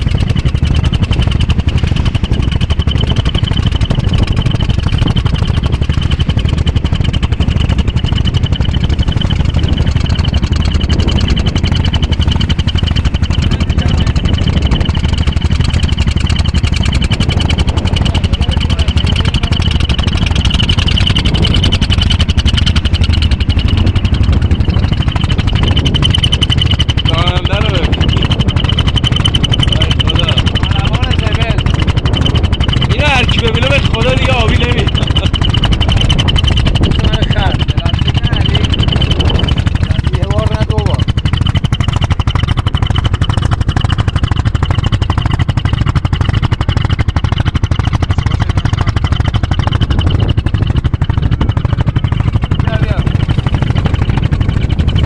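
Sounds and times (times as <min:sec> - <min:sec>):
boat engine running: 0:00.0 - 0:55.0
fast even knocking: 0:00.0 - 0:55.0
steady high whine: 0:00.0 - 0:55.0.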